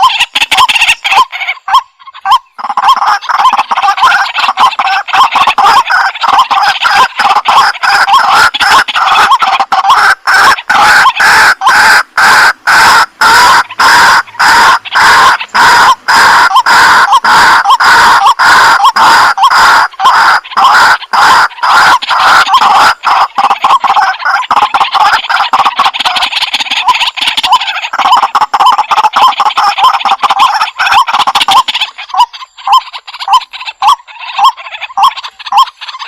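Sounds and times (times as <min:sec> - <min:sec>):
waterhen harsh croaking calls: 0:00.0 - 0:36.0.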